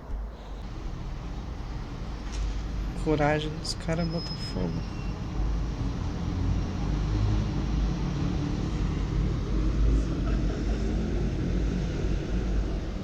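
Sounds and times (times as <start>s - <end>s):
urban background rumble: 0.0s - 13.0s.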